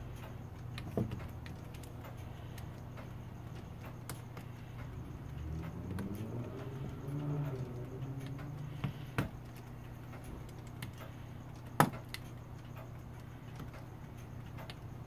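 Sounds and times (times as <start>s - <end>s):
small metallic clicks: 0.0s - 15.0s
low hum: 1.2s - 15.0s.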